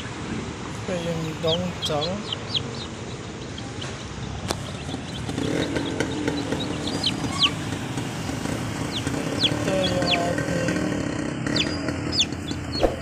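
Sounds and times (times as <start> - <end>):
chicks peeping: 1.0 - 13.0.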